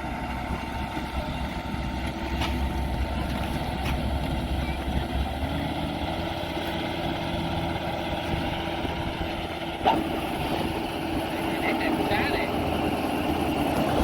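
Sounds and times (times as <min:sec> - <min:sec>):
harvester engine rumbling: 0:00.0 - 0:14.0.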